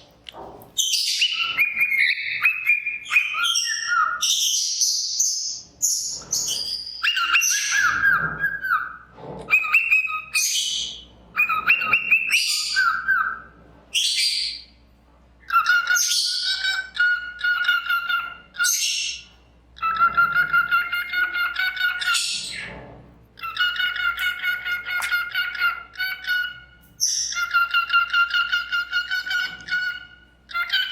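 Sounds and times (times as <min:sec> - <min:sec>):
cockatiel screeching and whistling: 0:00.8 - 0:14.6, 0:15.5 - 0:22.8, 0:23.4 - 0:30.9.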